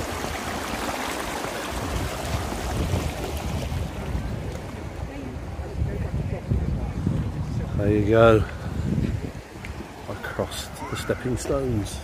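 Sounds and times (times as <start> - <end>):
river water rushing: 0.0 - 6.3, 8.1 - 12.0
wind buffeting microphone: 0.0 - 12.0.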